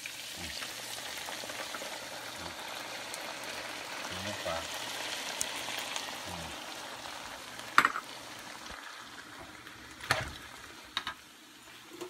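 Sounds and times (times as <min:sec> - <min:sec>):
meat sizzling in frying pan: 0:00.0 - 0:12.0.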